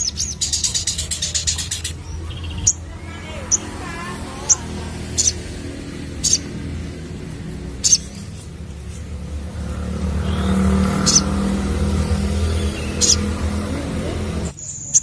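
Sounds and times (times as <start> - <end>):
low engine-like hum: 0.0 - 14.6
bird giving sharp high chirps: 0.0 - 15.0.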